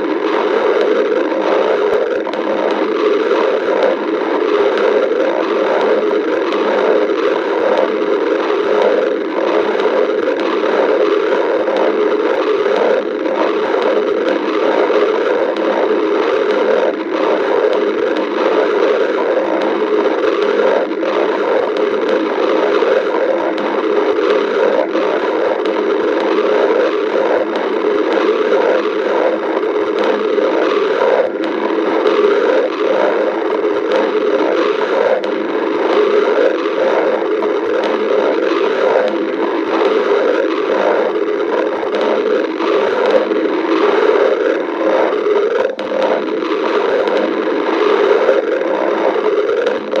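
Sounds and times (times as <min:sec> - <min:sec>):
stomach growling: 0:00.0 - 0:50.0.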